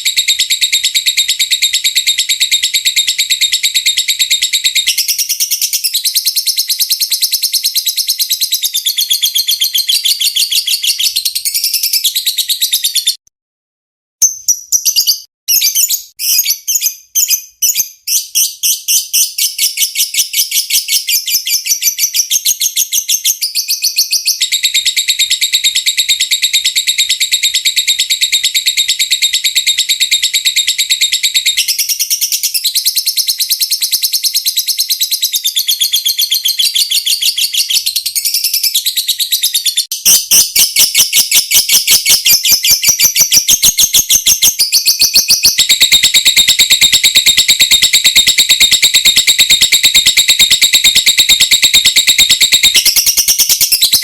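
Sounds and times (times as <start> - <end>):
lovebird chattering trill: 0.0 - 13.2, 14.2 - 54.0.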